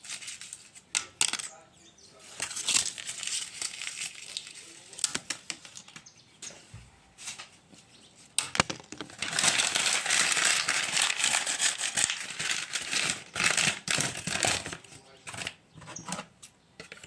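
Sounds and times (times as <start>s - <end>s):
plastic crinkling and rustling: 0.0s - 1.6s, 2.2s - 16.3s.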